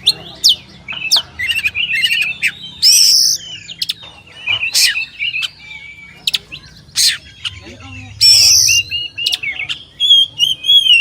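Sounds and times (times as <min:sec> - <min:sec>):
bird song chattering: 0:00.0 - 0:11.0.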